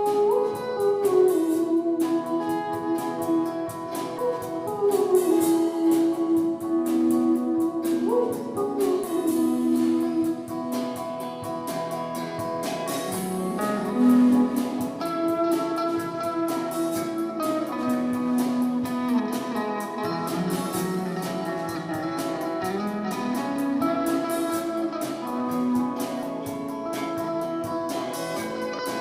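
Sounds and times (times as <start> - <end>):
lead guitar sliding notes: 0.0 - 29.0
strummed guitar: 0.0 - 29.0.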